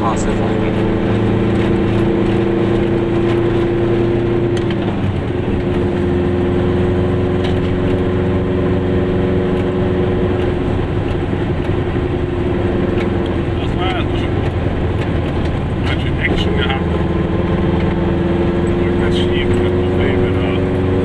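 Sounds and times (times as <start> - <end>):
two-stroke engine running: 0.0 - 21.0.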